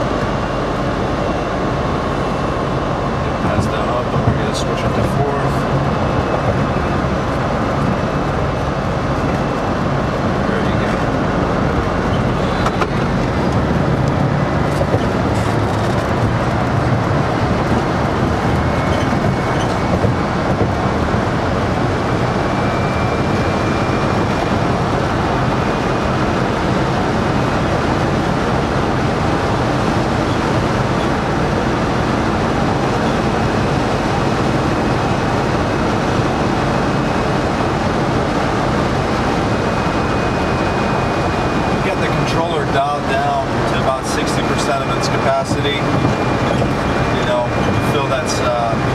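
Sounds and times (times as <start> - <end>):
road and wind noise in car: 0.0 - 48.9.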